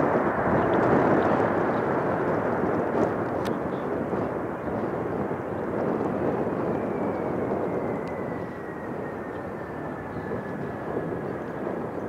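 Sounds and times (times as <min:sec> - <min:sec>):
jet aircraft passing: 0:00.0 - 0:12.0.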